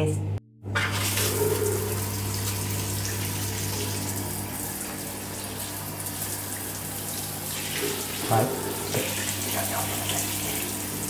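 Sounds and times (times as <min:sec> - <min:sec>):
shower spray on tiled wall: 0:00.8 - 0:11.0.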